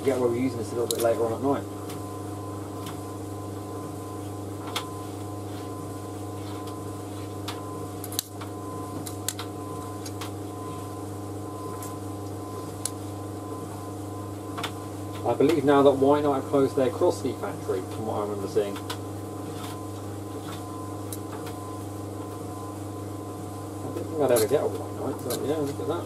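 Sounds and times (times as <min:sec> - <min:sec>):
tumble dryer humming: 0:00.0 - 0:26.0.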